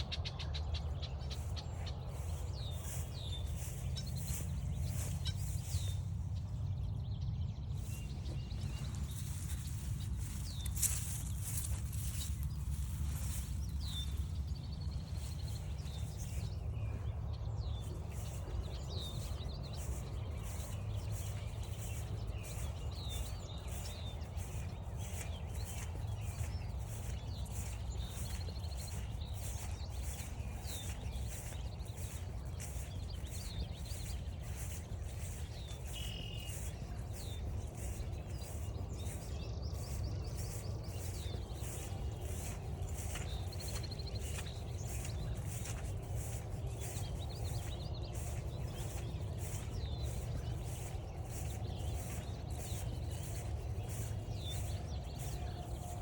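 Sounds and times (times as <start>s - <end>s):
footsteps on forest trail: 0.0s - 56.0s
songbird chirps and trill: 0.0s - 56.0s
steady low rumble: 0.0s - 56.0s.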